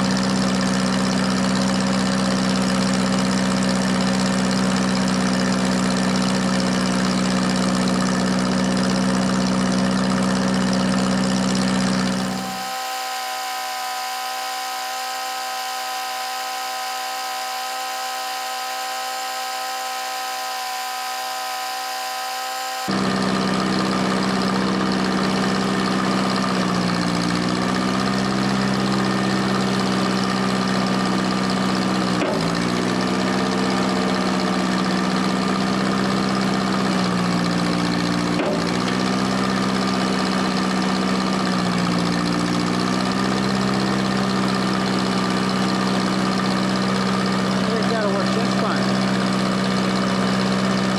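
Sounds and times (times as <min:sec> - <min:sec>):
tractor engine idling: 0:00.0 - 0:20.4, 0:22.9 - 0:50.9.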